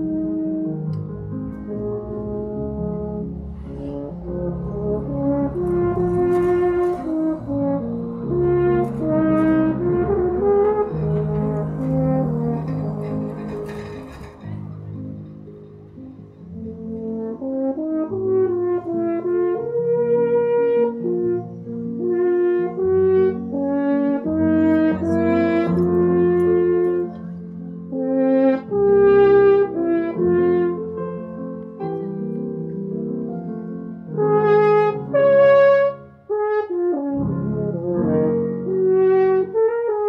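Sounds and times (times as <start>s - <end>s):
french horn melody: 0.0s - 32.0s, 33.2s - 40.0s.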